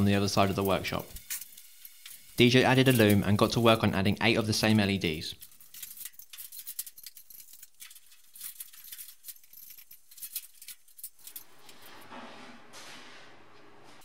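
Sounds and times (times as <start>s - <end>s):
clicking and rustling of wiring: 0.0s - 3.8s, 4.6s - 12.1s.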